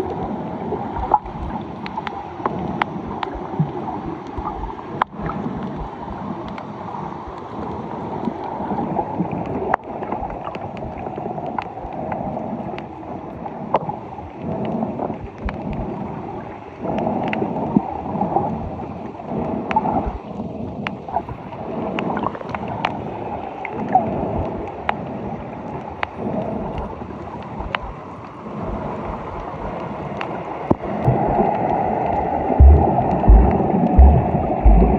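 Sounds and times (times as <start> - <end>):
sea water sloshing and gurgling: 0.0 - 34.9.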